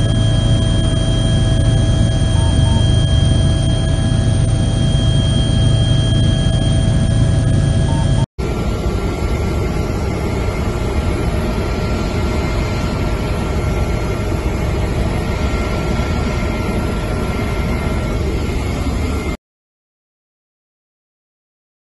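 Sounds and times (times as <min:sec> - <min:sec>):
aircraft engine rumble: 0:00.0 - 0:19.4
faint steady whine: 0:00.0 - 0:19.4.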